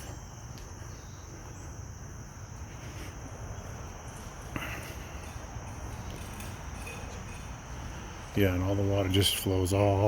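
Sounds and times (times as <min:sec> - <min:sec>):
crickets chirping: 0:00.0 - 0:10.0
low outdoor rumble: 0:00.0 - 0:10.0.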